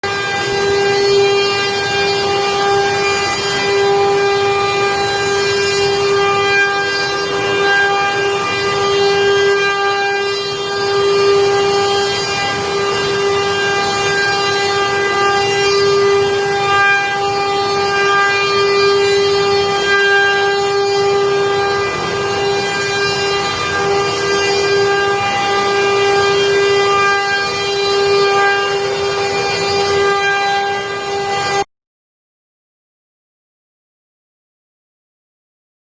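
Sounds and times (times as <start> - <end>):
router spindle whine: 0.0 - 31.6.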